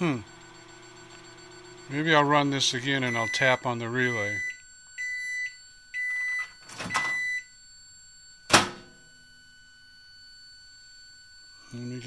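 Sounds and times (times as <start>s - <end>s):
microwave control panel beeping: 0.0s - 12.0s.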